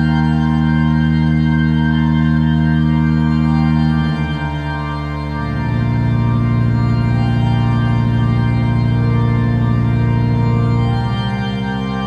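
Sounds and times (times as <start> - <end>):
sustained organ chords: 0.0 - 12.0.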